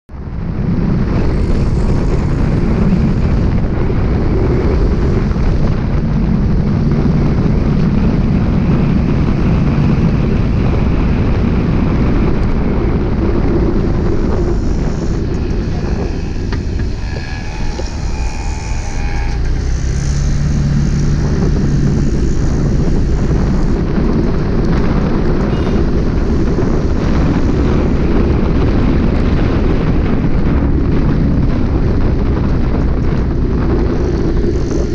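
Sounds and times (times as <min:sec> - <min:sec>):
road noise: 0:00.1 - 0:34.9
wind rush: 0:00.1 - 0:34.9.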